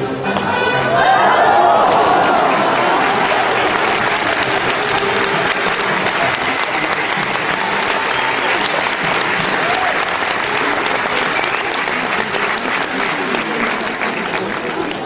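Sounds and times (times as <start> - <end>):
voices: 0.0 - 15.0
audience applauding: 0.8 - 15.0.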